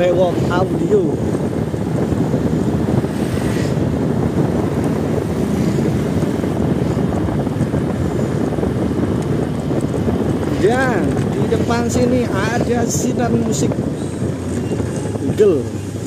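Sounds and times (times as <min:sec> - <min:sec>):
subwoofer bass roar: 0:00.0 - 0:16.0.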